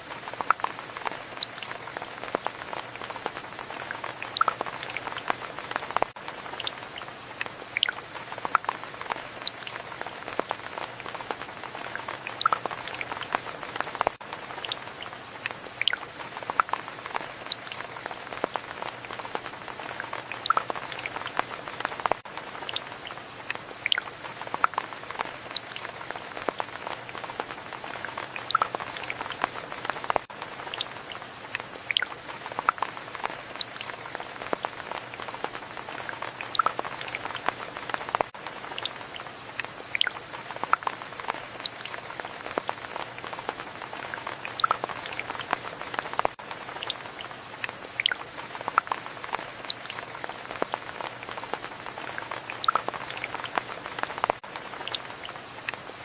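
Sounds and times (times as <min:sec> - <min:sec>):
rain hiss: 0:00.0 - 0:56.0
raindrops tapping: 0:00.0 - 0:56.0.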